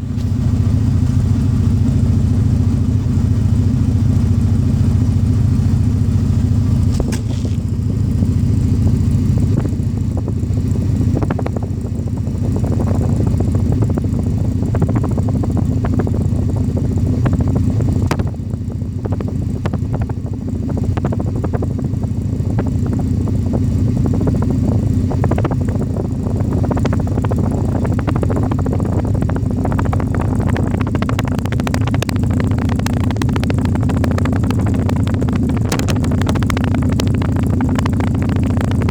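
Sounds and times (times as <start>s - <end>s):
car engine exhaust rumble: 0.0s - 38.9s.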